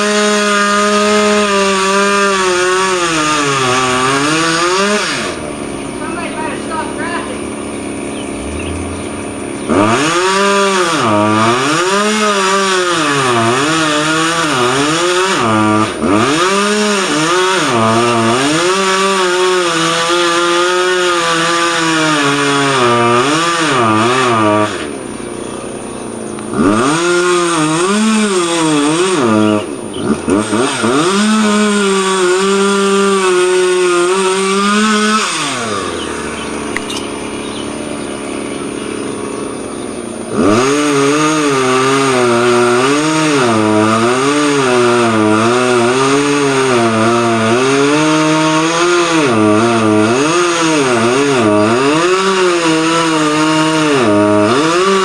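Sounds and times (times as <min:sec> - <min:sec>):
chainsaw revving and cutting: 0:00.0 - 0:55.0.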